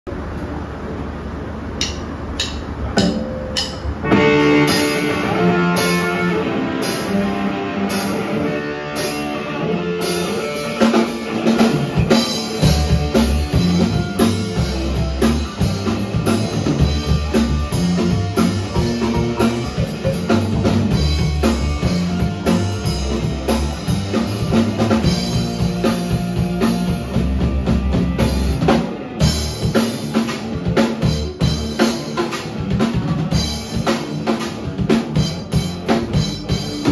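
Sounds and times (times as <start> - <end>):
rock band playing: 1.6 - 36.9.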